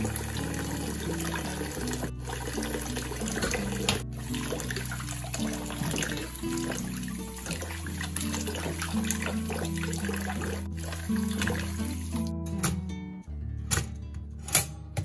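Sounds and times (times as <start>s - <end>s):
tap water splashing into basin: 0.0s - 12.3s
background music: 0.0s - 15.0s.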